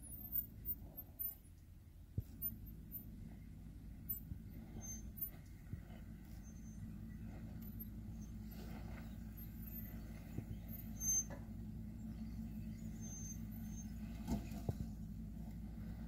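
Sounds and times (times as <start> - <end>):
truck engine running low: 0.0 - 16.0.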